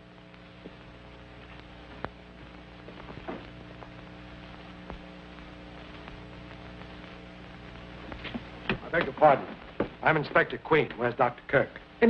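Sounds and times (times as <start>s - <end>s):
film soundtrack hum and hiss: 0.0s - 12.0s
clicks and crackles: 0.2s - 10.0s.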